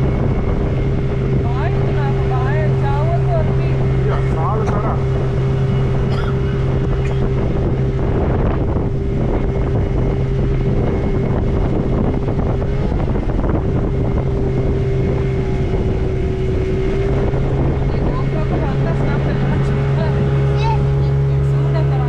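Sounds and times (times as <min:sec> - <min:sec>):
motorboat engine humming: 0:00.0 - 0:22.0
rushing wind: 0:00.0 - 0:22.0
water noise: 0:00.0 - 0:22.0.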